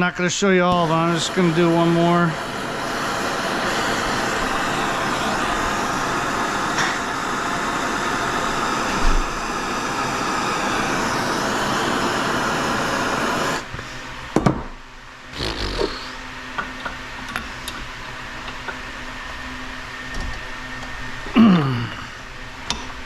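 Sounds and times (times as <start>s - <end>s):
torch flame burning: 0.0s - 23.0s.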